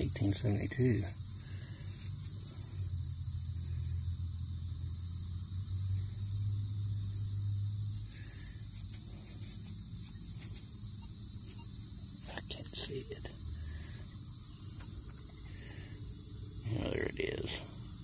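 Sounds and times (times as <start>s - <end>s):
crickets chirping: 0.0s - 18.0s
low steady hum: 0.0s - 18.0s.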